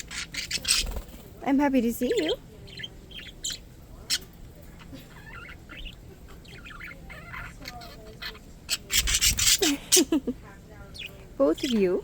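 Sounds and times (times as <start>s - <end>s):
budgerigars chirping and warbling: 0.0s - 12.0s.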